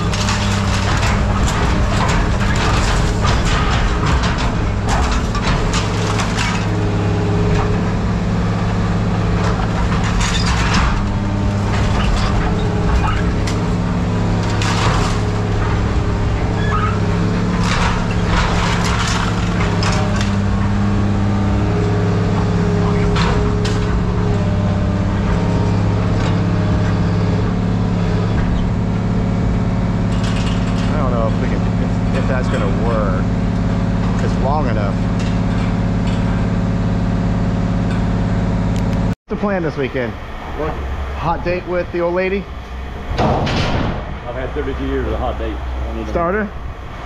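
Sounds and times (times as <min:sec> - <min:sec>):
machine engine running: 0:00.0 - 0:47.0.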